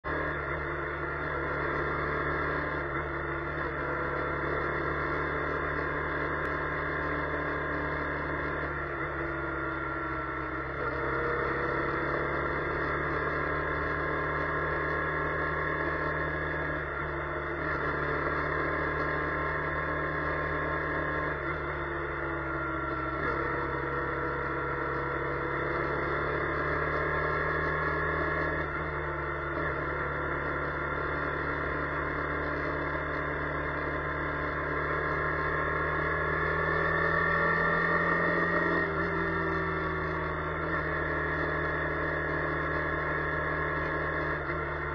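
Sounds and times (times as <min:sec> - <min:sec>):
car engine and road hum: 0:00.0 - 0:44.9.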